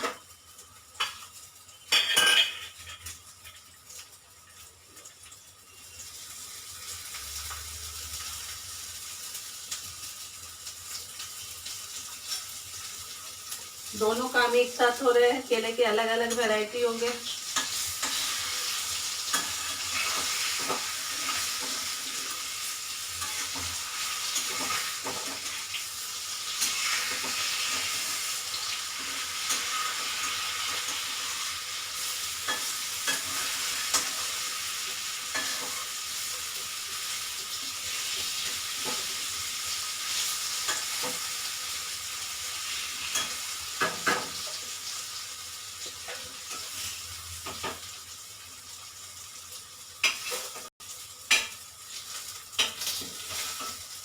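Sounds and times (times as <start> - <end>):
hot oil sizzling: 0.0 - 54.0.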